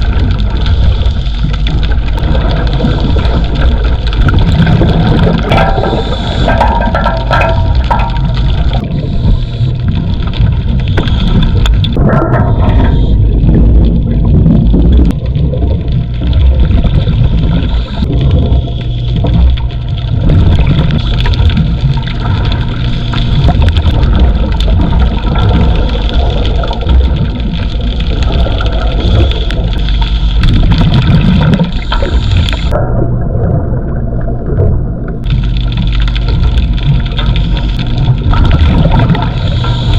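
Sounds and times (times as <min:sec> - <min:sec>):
machinery rumbling: 0:00.0 - 0:39.9
water gurgling and bubbling: 0:00.0 - 0:39.9.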